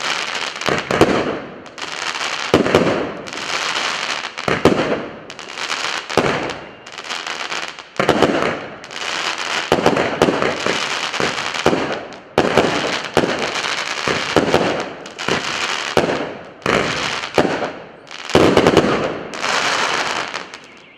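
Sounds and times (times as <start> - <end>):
firework crackling bursts: 0.0 - 20.8
firework shots: 0.0 - 20.9.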